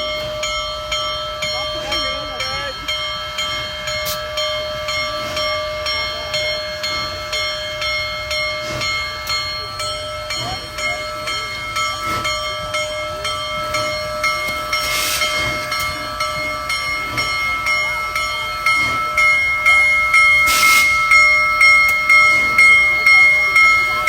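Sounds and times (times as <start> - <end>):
bell ringing: 0.0 - 24.0
steam hissing: 0.0 - 24.0.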